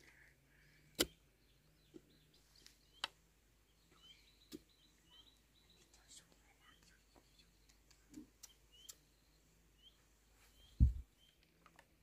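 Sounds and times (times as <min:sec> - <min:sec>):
faint bird chirps: 0:00.0 - 0:11.6.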